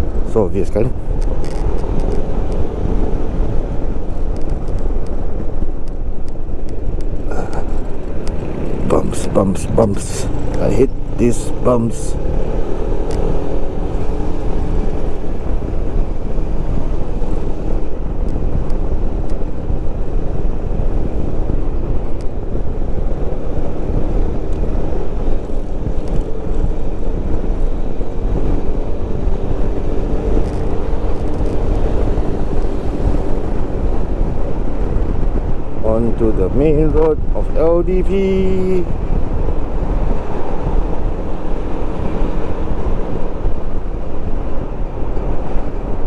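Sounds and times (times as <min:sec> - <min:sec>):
motorcycle engine drone: 0:00.0 - 0:46.0
wind rumbling over microphone: 0:00.0 - 0:46.0.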